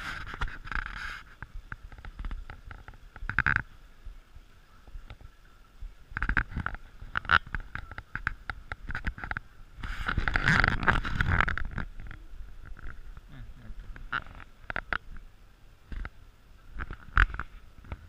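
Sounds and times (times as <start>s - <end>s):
camera rubbing against clothing: 0.0s - 3.8s, 4.8s - 15.3s, 15.9s - 18.0s.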